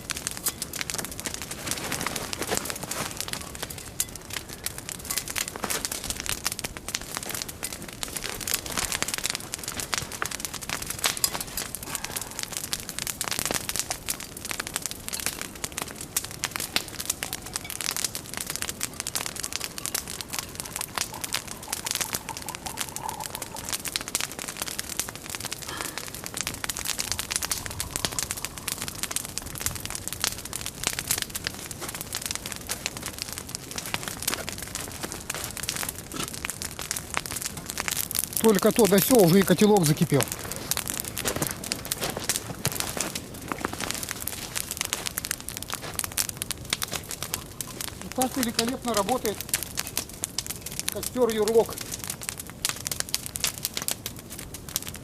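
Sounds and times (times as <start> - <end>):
campfire wood crackling: 0.0 - 55.0.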